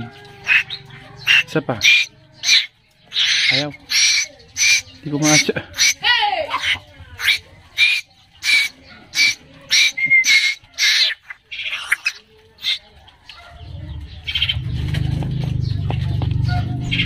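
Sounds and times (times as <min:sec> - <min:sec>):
fledgling birds begging calls: 0:00.0 - 0:17.0.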